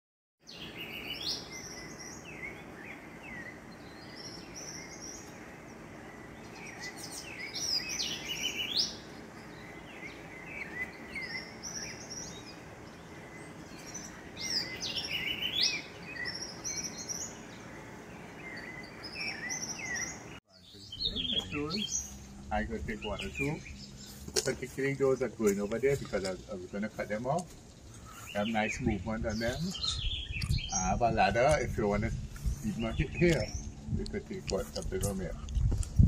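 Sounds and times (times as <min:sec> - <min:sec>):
birds chirping and calling: 0:00.4 - 0:36.0
steady background hiss: 0:00.5 - 0:35.4.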